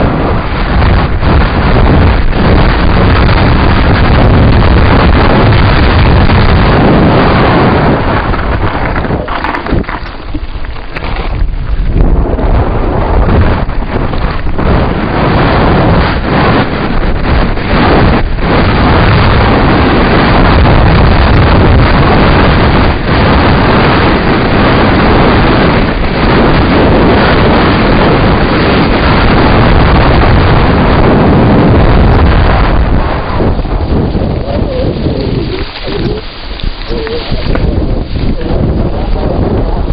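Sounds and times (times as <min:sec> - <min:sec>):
bike rattling over gravel: 0:00.0 - 0:39.9
wind buffeting on microphone: 0:00.0 - 0:39.9.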